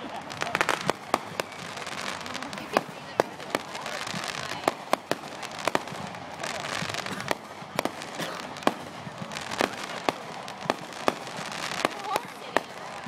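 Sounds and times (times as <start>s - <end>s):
fireworks crackling: 0.0s - 13.0s
fireworks popping and banging: 0.0s - 13.0s.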